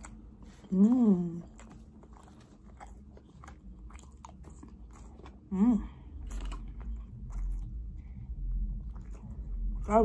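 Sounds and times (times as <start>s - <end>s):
chewing and lip-smacking: 0.0s - 10.0s.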